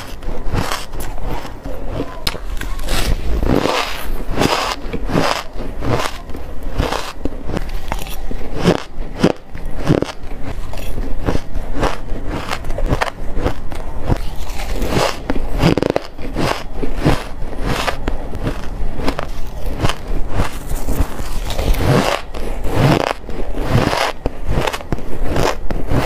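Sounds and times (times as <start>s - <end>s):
shaved ice crunching: 0.0s - 26.0s.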